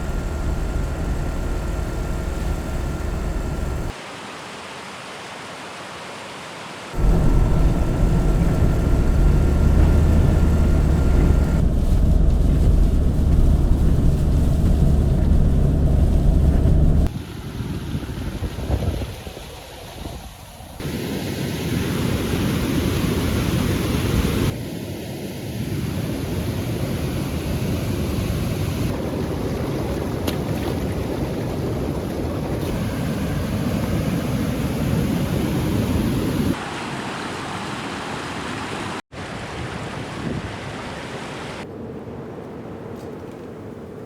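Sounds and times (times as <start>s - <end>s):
rushing water: 0.0s - 24.6s, 25.8s - 41.7s
wind: 0.0s - 44.0s.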